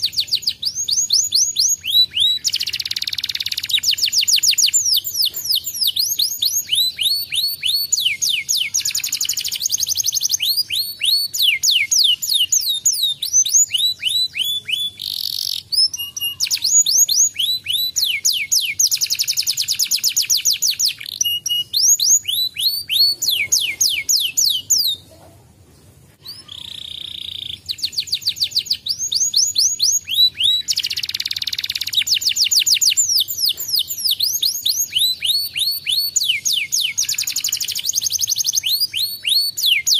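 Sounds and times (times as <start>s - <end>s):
canary singing trills: 0.0s - 25.4s, 26.2s - 39.9s.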